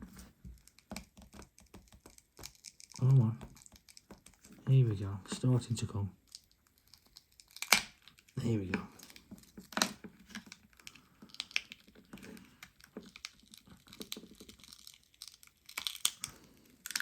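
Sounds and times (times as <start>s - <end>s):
adhesive crackling and tearing: 0.6s - 5.6s, 6.2s - 17.0s.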